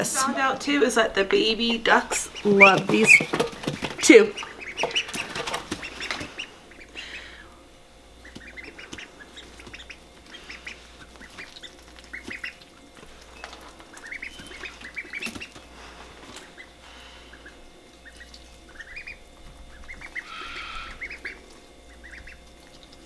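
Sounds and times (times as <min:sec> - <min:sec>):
ducklings peeping: 0:00.0 - 0:23.0.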